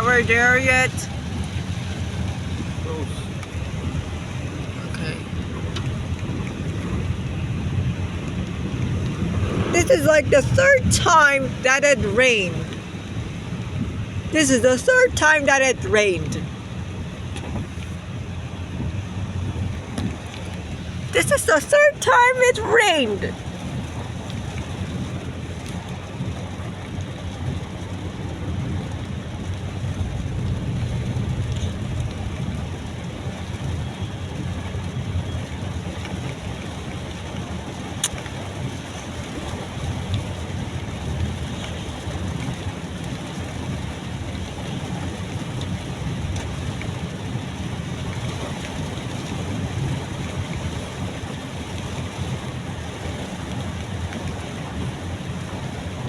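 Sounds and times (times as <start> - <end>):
heavy rain on a car: 0.0 - 56.0
low road rumble: 0.0 - 56.0.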